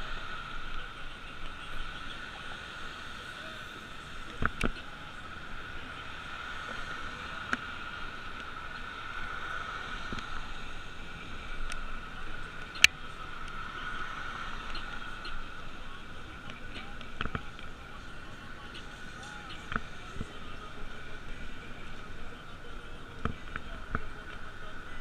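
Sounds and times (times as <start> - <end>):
bicycle riding hiss: 0.0 - 25.0.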